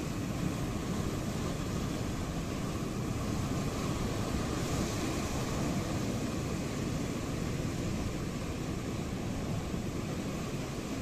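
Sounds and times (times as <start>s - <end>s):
ocean waves washing ashore: 0.0s - 11.0s.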